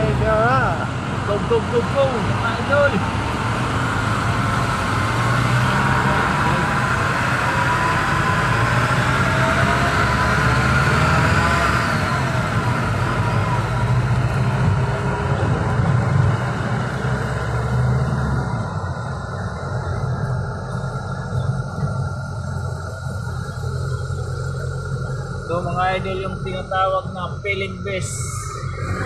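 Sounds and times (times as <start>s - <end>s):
faint wavering whine: 0.0s - 29.0s
vehicle engine and road hum: 0.0s - 29.0s.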